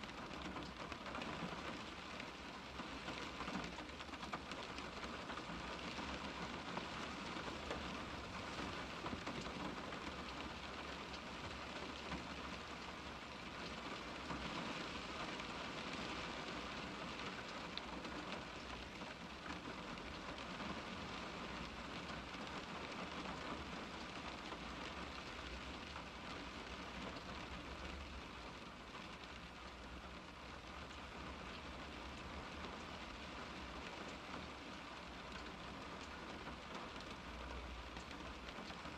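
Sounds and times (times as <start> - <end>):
rain on car glass: 0.0 - 38.9.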